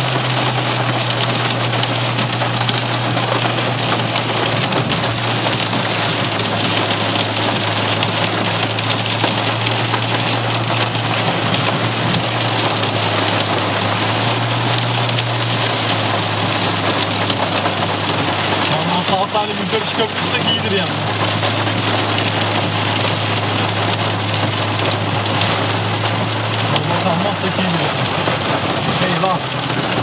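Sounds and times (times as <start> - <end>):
car engine humming: 0.0 - 30.0
heavy rain drumming on car: 0.0 - 30.0.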